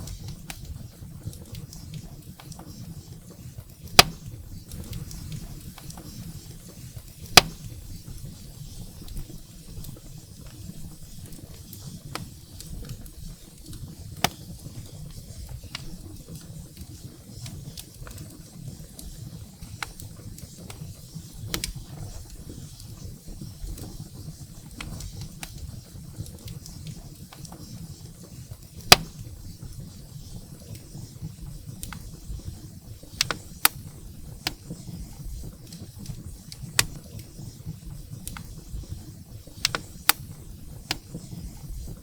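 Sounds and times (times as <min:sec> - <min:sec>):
fire crackling and popping: 0:00.0 - 0:42.0
rumble of flames: 0:00.0 - 0:42.0.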